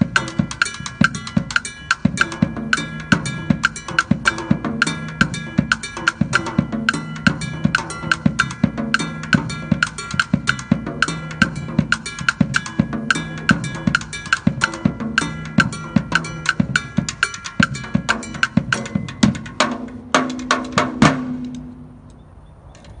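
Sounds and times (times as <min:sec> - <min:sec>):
cymbal strikes: 0:00.0 - 0:21.9
drum kit groove: 0:00.0 - 0:21.9.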